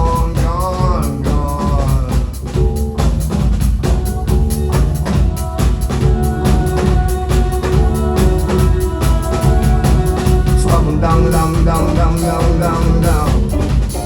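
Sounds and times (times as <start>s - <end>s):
drum kit beat: 0.0s - 14.0s
heavy bass line: 0.0s - 14.0s.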